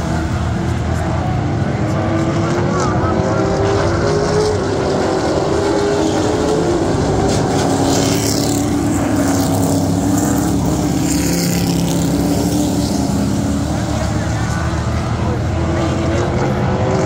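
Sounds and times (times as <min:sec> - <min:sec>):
race car engines roaring: 0:00.0 - 0:17.0.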